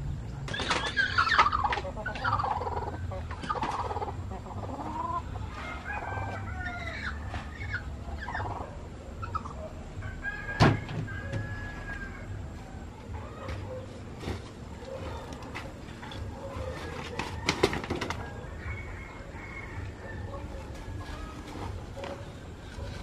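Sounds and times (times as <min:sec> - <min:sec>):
chickens clucking: 0:00.2 - 0:23.0.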